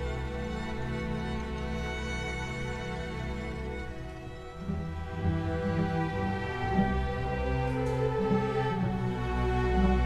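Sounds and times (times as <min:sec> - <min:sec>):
string orchestra playing: 0:00.0 - 0:10.0.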